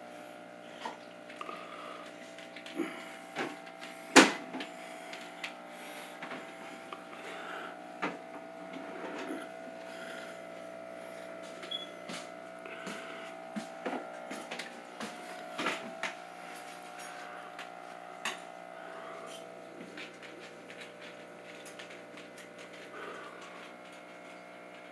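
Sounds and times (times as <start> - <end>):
aquarium filter humming: 0.0 - 24.9.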